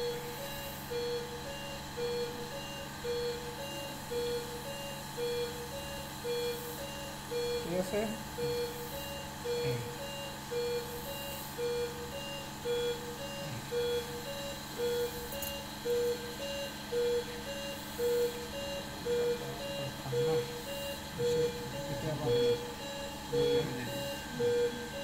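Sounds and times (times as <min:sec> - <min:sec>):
equipment hum: 0:00.0 - 0:25.0
patient monitor pulse beeps: 0:00.0 - 0:25.0.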